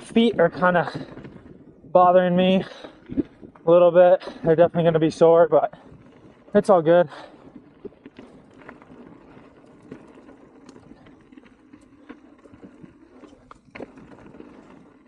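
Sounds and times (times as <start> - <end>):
bike clicks and rattles: 0.0 - 15.0
bike tyres on dirt trail: 0.0 - 15.0.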